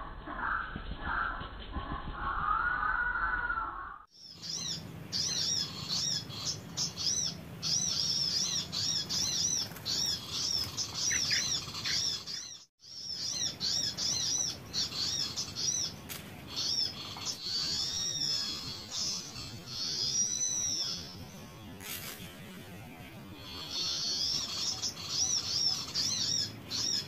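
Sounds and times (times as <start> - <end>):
small birds chirping: 4.1 - 27.0.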